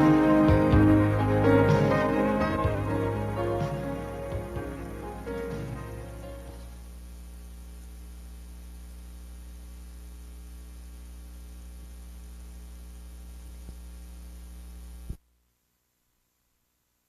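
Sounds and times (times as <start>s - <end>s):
electrical mains hum: 0.0s - 17.0s
faint recording hiss: 0.0s - 17.0s.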